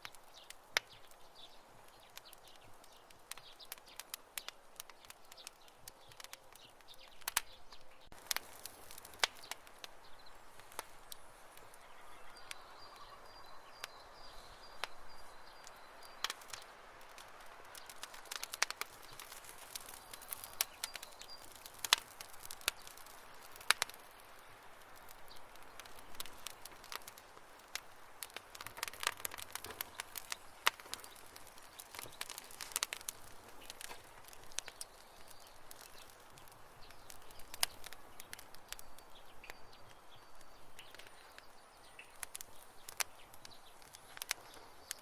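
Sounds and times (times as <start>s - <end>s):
campfire wood crackling: 0.0s - 45.0s.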